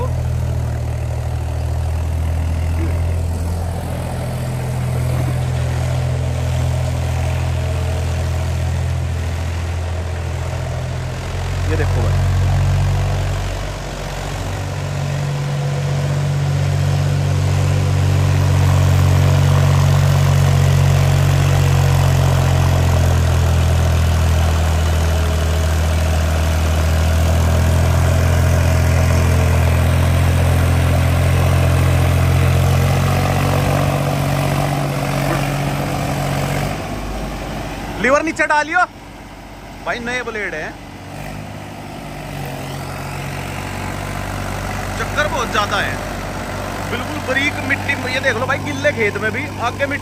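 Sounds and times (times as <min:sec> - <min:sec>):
rotavator tilling wet soil: 0:00.0 - 0:38.0, 0:41.1 - 0:50.0
tractor diesel engine under load: 0:00.0 - 0:50.0.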